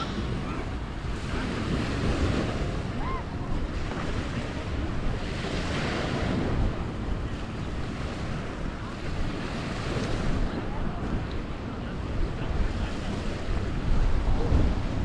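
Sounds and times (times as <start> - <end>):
waves washing onto beach: 0.0 - 15.0
wind rumbling on microphone: 0.0 - 15.0.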